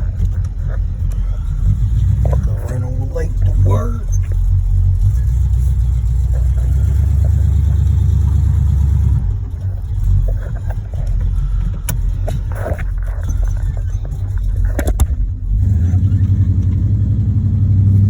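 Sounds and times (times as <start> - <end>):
car engine with knocking rod: 0.0 - 18.0.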